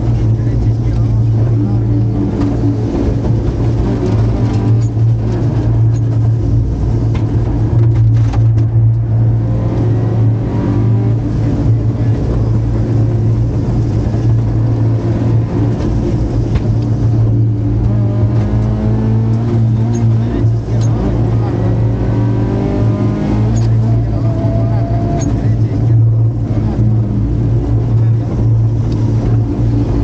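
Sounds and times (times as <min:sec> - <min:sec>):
rally car engine from inside cabin: 0:00.0 - 0:30.0.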